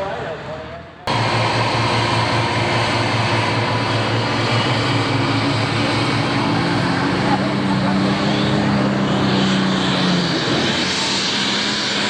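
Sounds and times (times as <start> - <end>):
diesel engine at high revs: 0.0 - 12.0.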